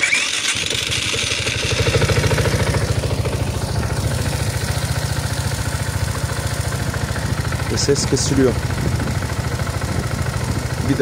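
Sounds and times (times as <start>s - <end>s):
abnormal engine noise: 0.0s - 11.0s
scooter engine starting and idling: 0.0s - 11.0s.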